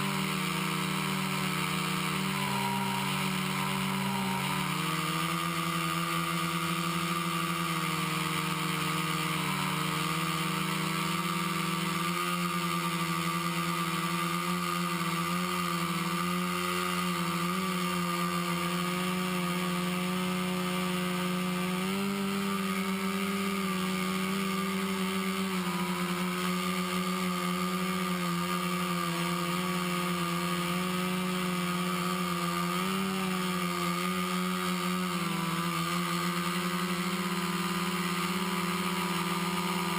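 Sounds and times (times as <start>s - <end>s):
quadcopter motors humming: 0.0s - 39.9s.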